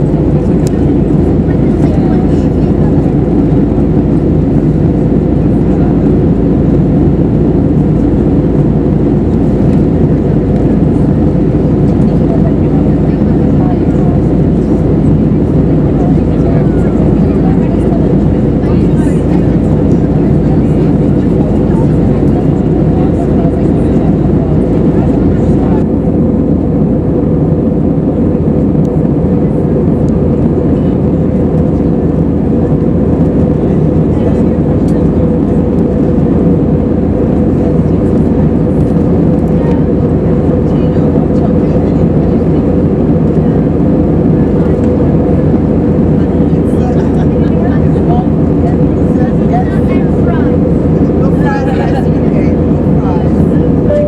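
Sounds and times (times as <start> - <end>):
airliner cabin roar: 0.0 - 54.0
faint steady hum: 0.0 - 54.0.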